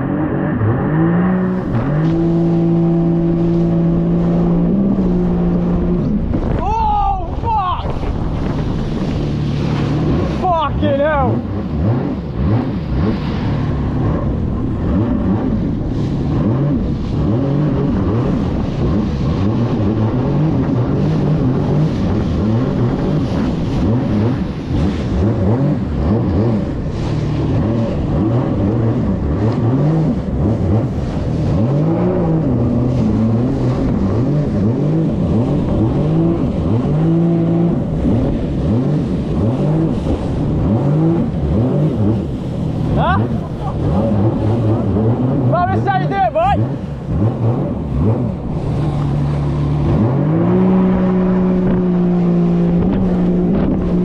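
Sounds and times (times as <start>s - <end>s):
jet ski engine revving: 0.0s - 54.0s.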